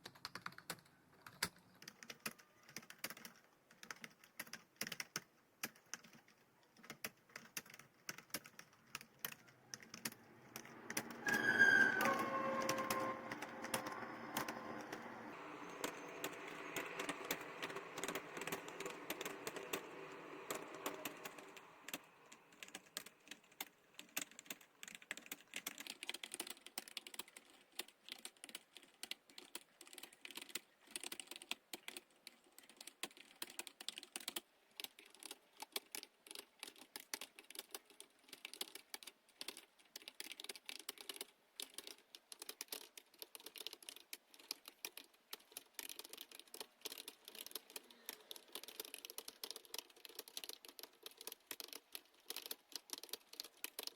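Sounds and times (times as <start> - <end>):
fast typing on keyboard: 0.0 - 53.9.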